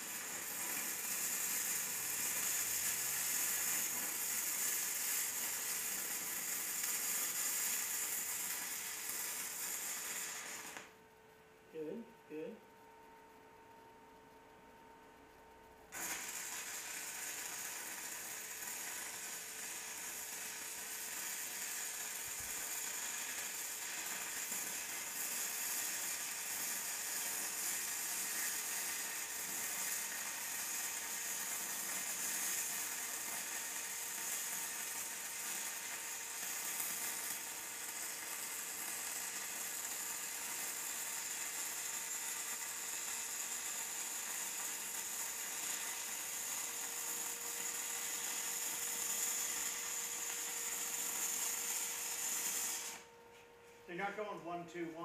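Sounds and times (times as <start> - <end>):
welding arc crackling hiss: 0.0 - 11.0, 15.9 - 53.1.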